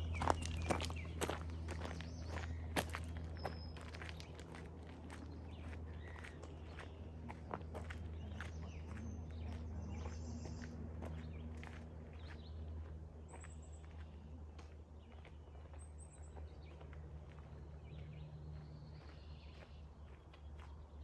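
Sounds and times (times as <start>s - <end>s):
faint footsteps on a trail: 0.0s - 21.0s.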